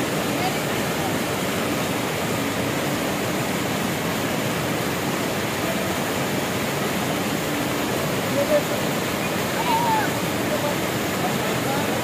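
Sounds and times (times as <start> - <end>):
white water rushing over boulders: 0.0 - 12.0.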